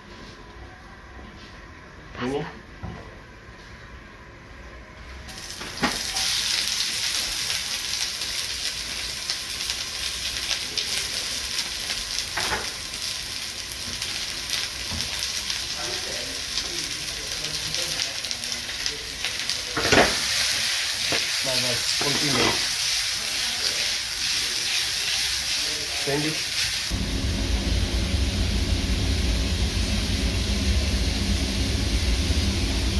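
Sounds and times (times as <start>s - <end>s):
food sizzling in hot oil: 5.3s - 32.9s.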